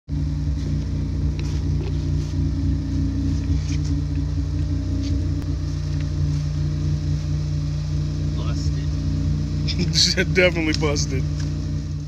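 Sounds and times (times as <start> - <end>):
car engine idling: 0.1 - 12.0.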